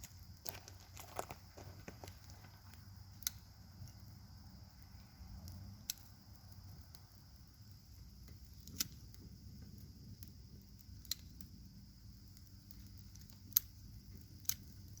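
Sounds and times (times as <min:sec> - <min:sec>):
campfire crackling: 0:00.0 - 0:15.0
sharp fire pops: 0:00.0 - 0:15.0.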